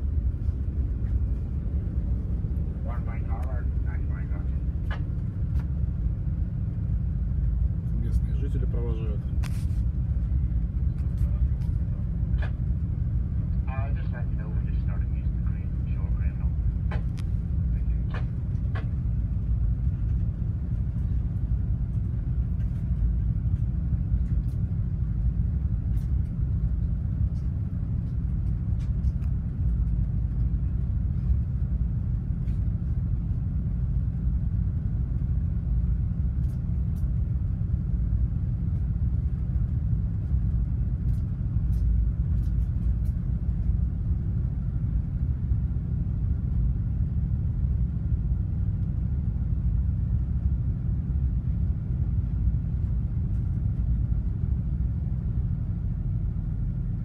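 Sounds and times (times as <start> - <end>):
ship low rumble: 0.0 - 57.0.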